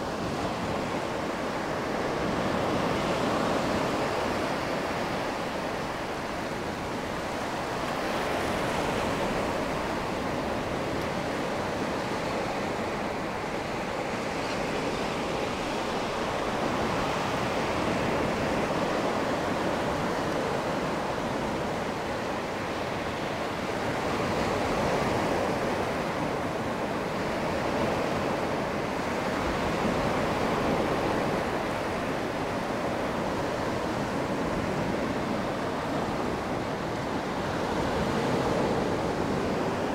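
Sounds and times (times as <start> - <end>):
waves washing on sand: 0.0 - 39.9.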